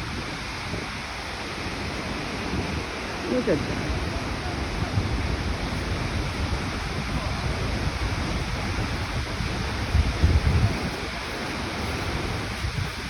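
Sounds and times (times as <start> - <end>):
waterfall rushing: 0.0 - 13.0
wind rumble on microphone: 0.0 - 13.0.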